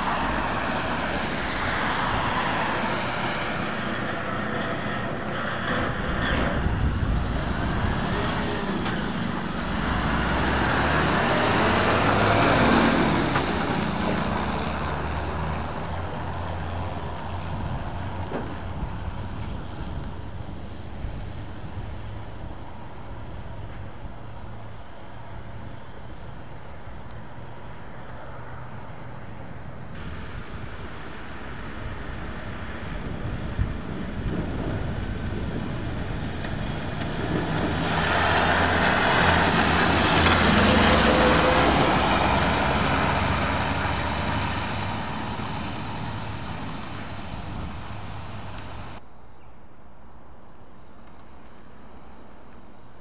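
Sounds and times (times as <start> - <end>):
tyres hissing on wet road: 0.0 - 23.6, 30.0 - 49.0
truck diesel engine: 0.0 - 27.8, 28.4 - 49.0.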